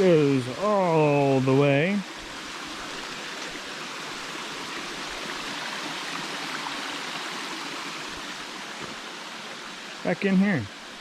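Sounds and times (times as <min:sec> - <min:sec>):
creek spilling over rocks: 0:00.0 - 0:11.0.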